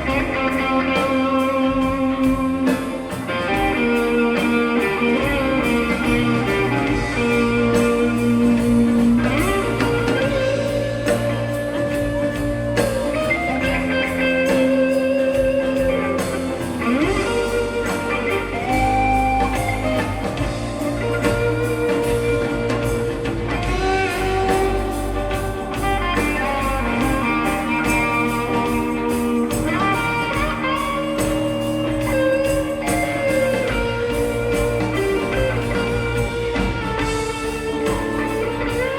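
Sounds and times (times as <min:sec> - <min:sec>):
bass and drums: 0:00.0 - 0:38.9
electric guitar lead: 0:00.0 - 0:38.9.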